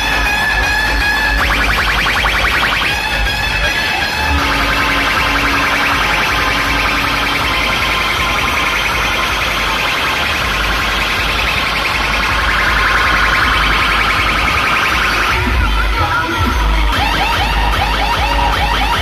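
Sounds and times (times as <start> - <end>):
loud electronic dance music: 0.0 - 19.0.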